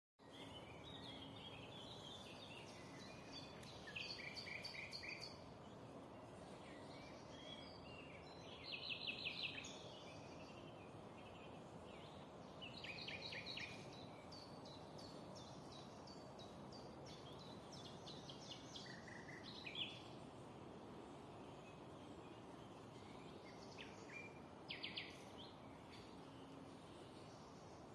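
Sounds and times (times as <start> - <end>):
faint background hiss: 0.2 - 27.9
songbirds singing trilled phrases: 0.2 - 27.9.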